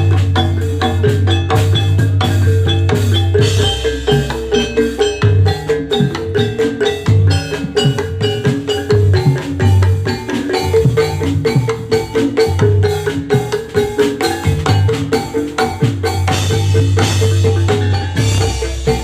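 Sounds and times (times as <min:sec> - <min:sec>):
metal-keyed instruments ringing: 0:00.0 - 0:19.0.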